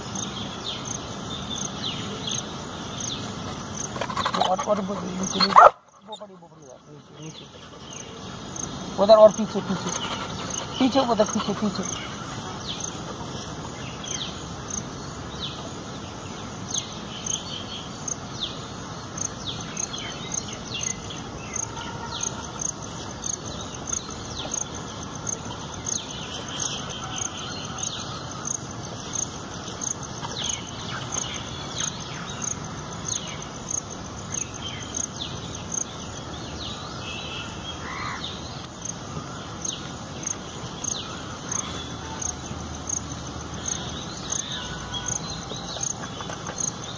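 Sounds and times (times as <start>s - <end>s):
birds calling: 0.0s - 46.9s
cricket chirping: 0.0s - 46.9s
outdoor background noise: 0.0s - 46.9s.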